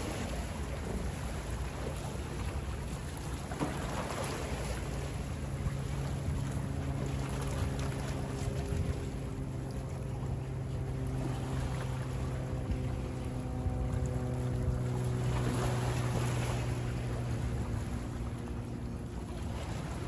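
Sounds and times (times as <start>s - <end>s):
boat engine humming: 0.0s - 20.0s
water lapping: 0.0s - 20.0s
wind: 0.0s - 20.0s.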